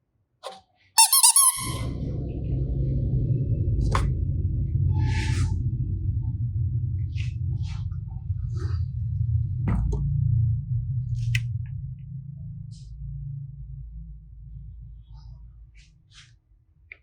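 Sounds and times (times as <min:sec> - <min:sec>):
steady low hum: 0:01.8 - 0:16.1.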